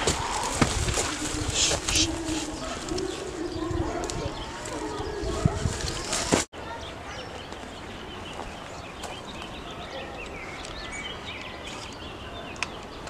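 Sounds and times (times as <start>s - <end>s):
small birds chirping: 0.3s - 13.0s.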